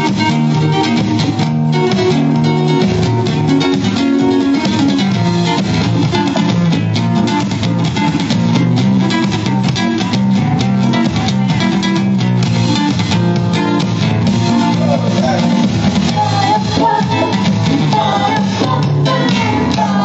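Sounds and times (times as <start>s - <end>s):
instrumental band music with guitar: 0.0s - 20.0s.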